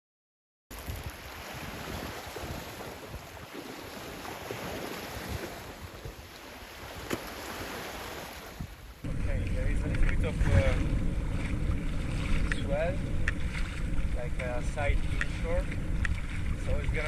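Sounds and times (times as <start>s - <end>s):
sea waves washing: 0.7s - 17.0s
wind noise on microphone: 0.7s - 17.0s.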